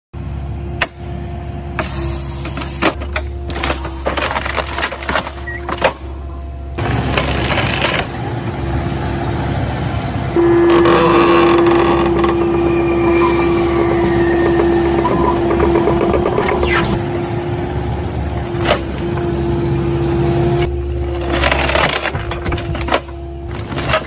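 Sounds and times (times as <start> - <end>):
diesel engine running: 0.2 - 24.0
loud steady whine: 0.2 - 24.0.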